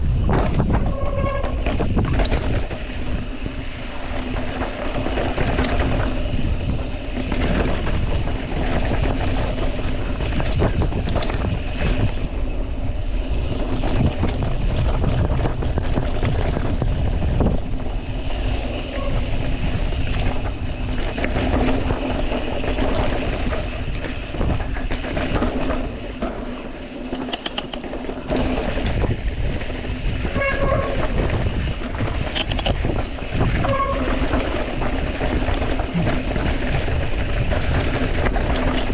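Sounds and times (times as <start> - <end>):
bike tires rumbling over rocky trail: 0.0 - 38.9
wind buffeting microphone: 0.0 - 38.9.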